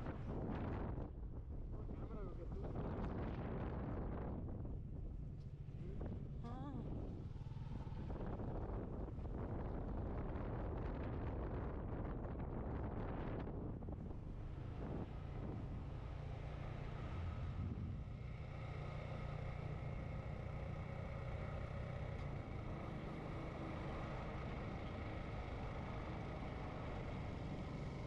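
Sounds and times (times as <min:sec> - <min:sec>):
road and wind noise: 0:00.0 - 0:28.0
motorcycle engine droning: 0:02.9 - 0:28.0.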